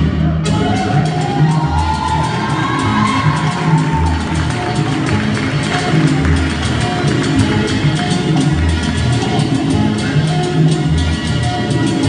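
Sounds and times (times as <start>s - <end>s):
salsa music: 0.0s - 12.0s.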